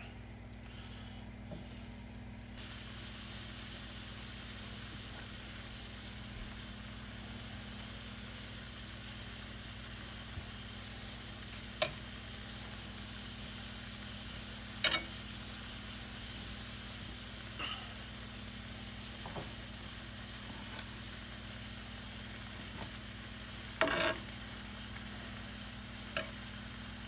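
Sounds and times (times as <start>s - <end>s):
steady low hum: 0.0s - 27.0s
fish sizzling in a skillet: 2.6s - 27.0s.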